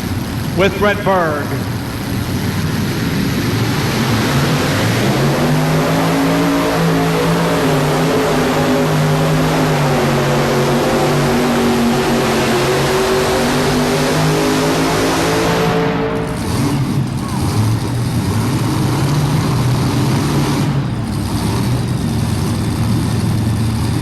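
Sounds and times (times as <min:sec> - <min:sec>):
tractor engines at full throttle: 0:00.0 - 0:24.0.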